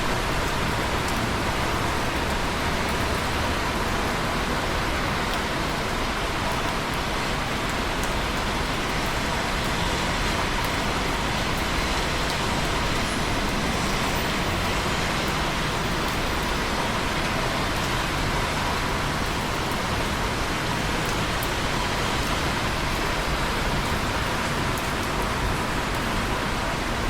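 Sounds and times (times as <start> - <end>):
steady rain hiss: 0.0 - 27.0
rain drop ticks: 0.2 - 26.5.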